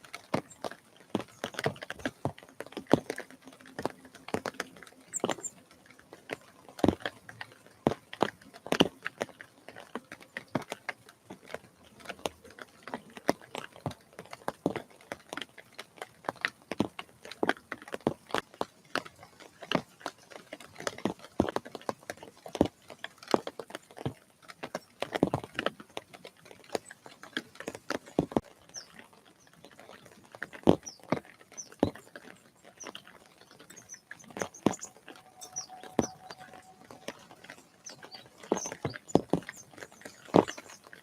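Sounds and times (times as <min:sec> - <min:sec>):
small birds chirping: 0:00.0 - 0:24.0, 0:24.6 - 0:41.0.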